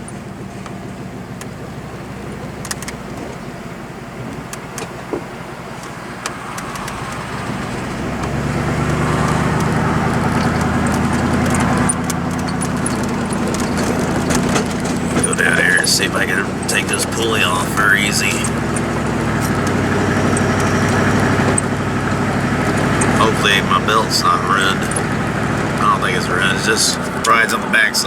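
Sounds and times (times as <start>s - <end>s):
riding mower engine with rattles: 0.0s - 28.0s.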